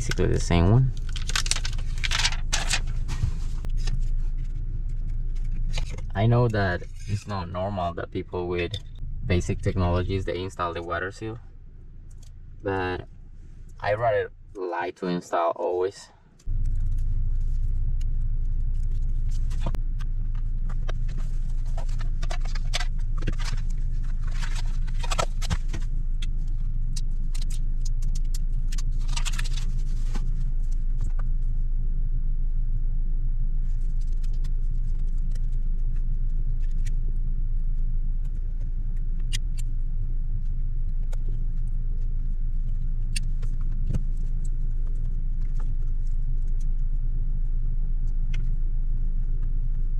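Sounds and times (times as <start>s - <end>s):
vehicle engine idling: 0.0s - 14.7s, 16.0s - 49.9s.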